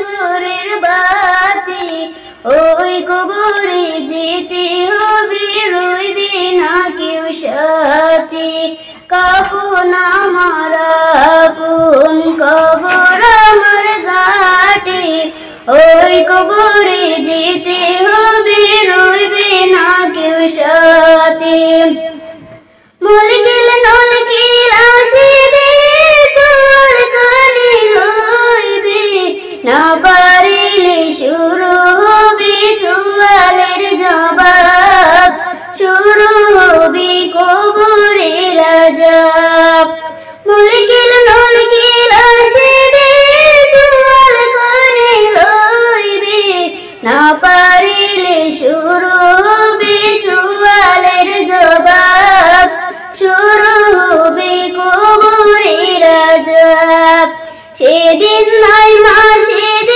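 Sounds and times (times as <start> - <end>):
woman singing devotional song: 0.0 - 59.9.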